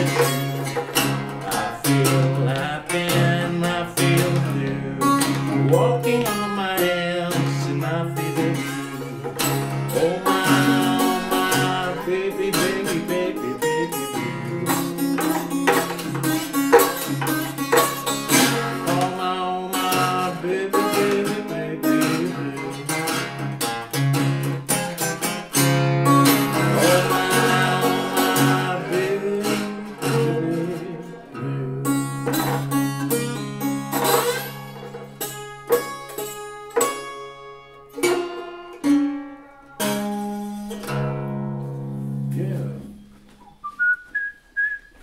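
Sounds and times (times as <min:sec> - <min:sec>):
fingerpicked acoustic blues guitar: 0:00.0 - 0:45.0.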